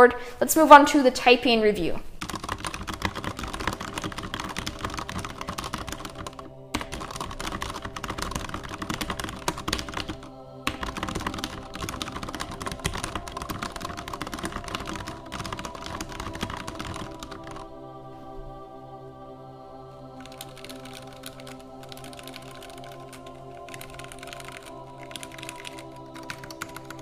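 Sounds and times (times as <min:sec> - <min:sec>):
mechanical keyboard typing: 0:02.2 - 0:17.6, 0:20.2 - 0:27.0.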